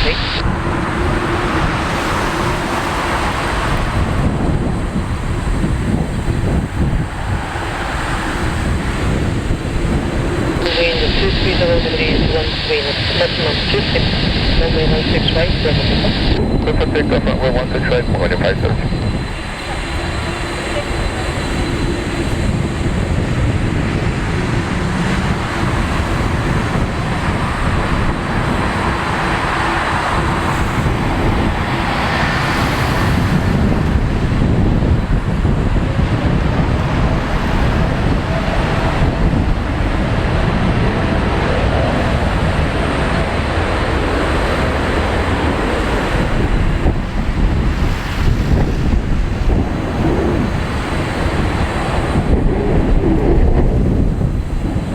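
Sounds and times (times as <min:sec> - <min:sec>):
jet engines at takeoff: 0:00.0 - 0:54.9.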